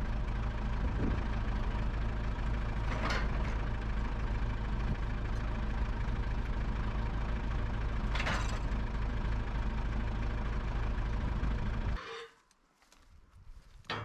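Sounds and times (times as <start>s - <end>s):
sawmill engine running: 0.0s - 12.3s.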